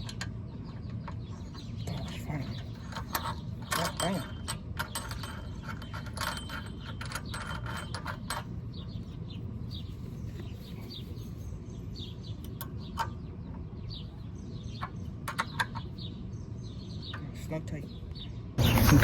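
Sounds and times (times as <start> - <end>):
low background hum: 0.0 - 19.0
small birds chirping: 0.0 - 19.0.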